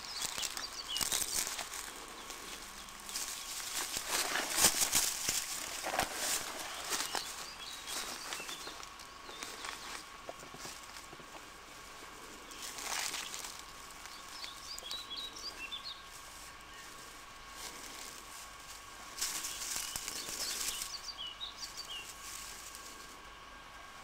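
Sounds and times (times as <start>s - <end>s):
leaves and twigs crunching: 0.0s - 24.0s.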